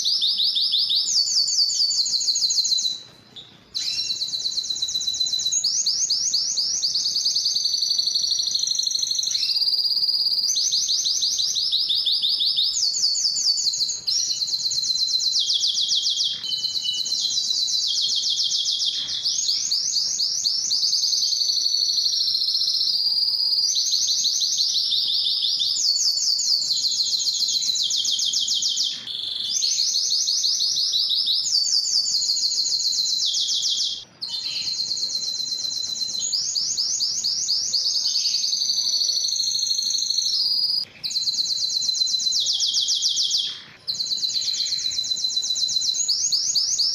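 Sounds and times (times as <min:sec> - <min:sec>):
canary singing fast trills: 0:00.0 - 0:46.9.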